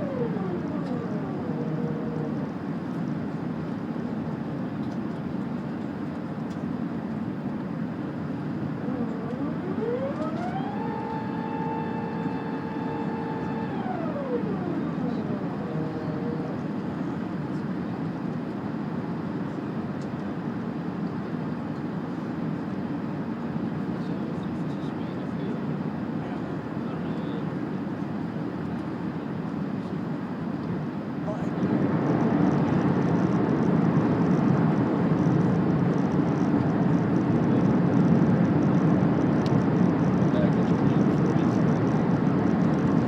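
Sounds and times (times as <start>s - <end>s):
airliner cabin engine drone: 0.0s - 43.0s.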